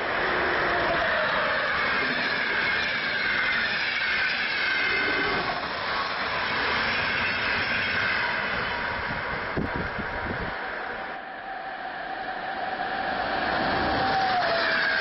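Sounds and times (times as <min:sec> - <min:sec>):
faint electric train whine: 0:00.0 - 0:15.0
steel wheels rushing on rail: 0:00.0 - 0:15.0.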